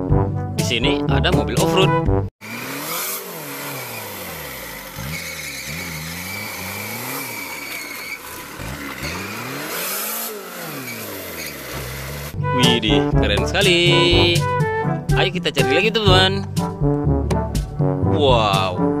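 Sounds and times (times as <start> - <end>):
off-road vehicle engine revving: 2.4 - 18.1.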